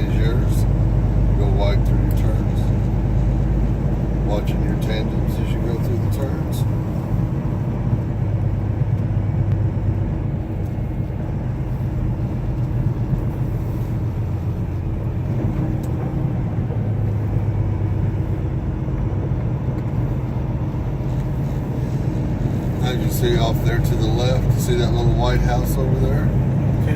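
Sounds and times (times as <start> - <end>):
diesel truck engine drone: 0.0 - 26.9.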